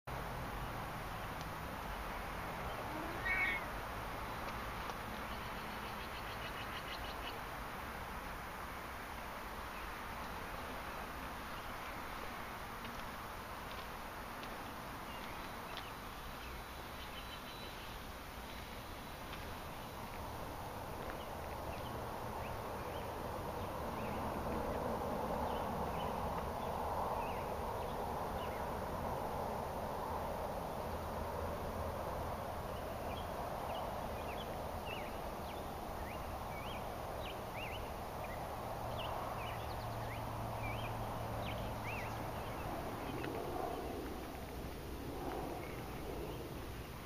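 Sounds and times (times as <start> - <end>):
small birds chirping: 0.1 - 7.8, 8.8 - 28.8, 32.6 - 47.0
steady background hiss: 0.1 - 47.0.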